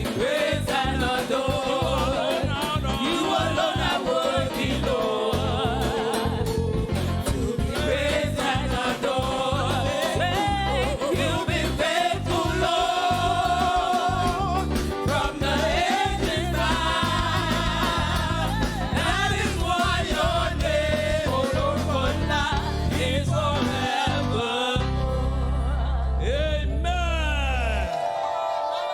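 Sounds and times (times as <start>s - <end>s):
band with heavy bass: 0.0s - 27.9s
gospel singing voices: 0.0s - 28.9s.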